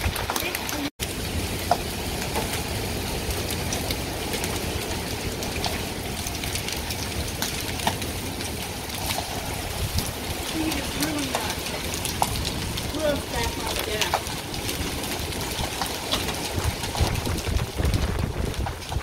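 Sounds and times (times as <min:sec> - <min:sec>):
large hailstones striking: 0:00.0 - 0:19.0
rain and hail falling: 0:00.0 - 0:19.0.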